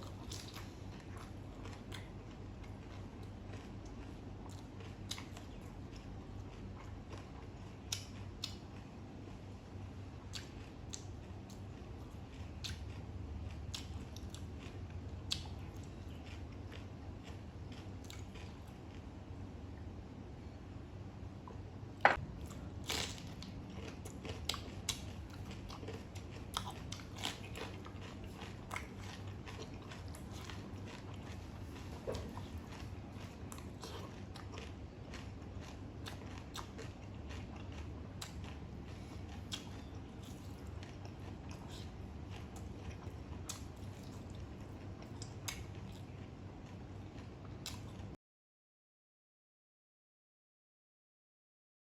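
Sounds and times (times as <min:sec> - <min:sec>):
person chewing chicken: 0:00.0 - 0:19.1, 0:22.1 - 0:48.1
steady low hum: 0:00.0 - 0:48.2.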